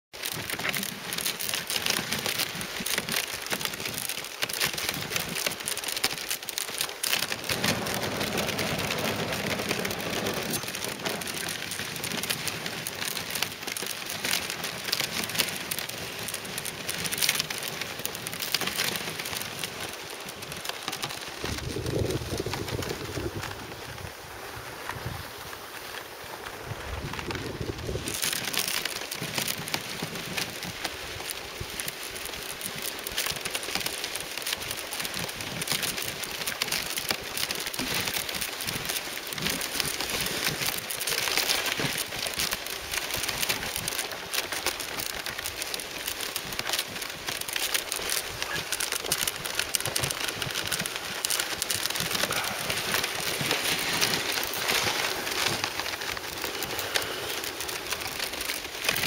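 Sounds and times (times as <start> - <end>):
sled runners crunching on snow: 0.1 - 59.0
dog paws on snow: 0.2 - 23.7, 24.7 - 59.0.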